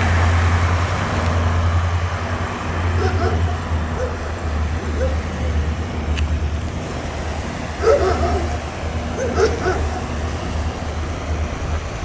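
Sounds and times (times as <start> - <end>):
vehicle rumble in motion: 0.0 - 12.0.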